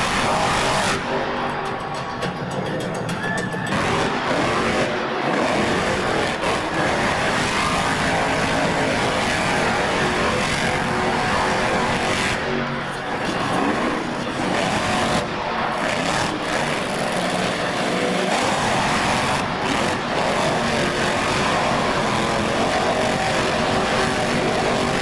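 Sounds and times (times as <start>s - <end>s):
monster truck engines revving: 0.0s - 25.0s.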